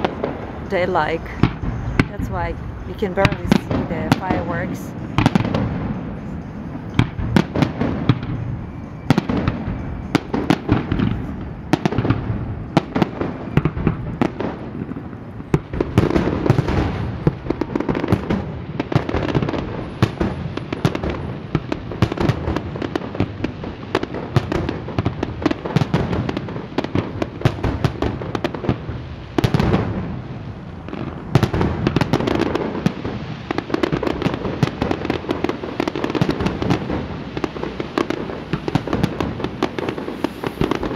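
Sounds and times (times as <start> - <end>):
fireworks bangs and crackles: 0.0 - 40.9
loud firework report: 0.0 - 40.9.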